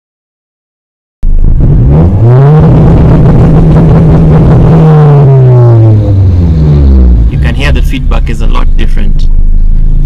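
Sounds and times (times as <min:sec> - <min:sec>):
engine bouncing off rev limiter: 0:01.2 - 0:10.0.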